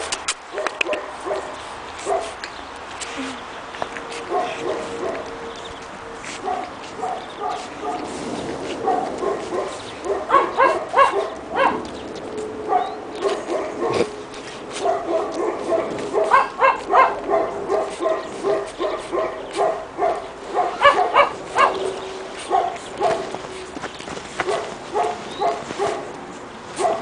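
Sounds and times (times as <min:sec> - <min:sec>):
puppies yipping and barking: 0:00.0 - 0:27.0.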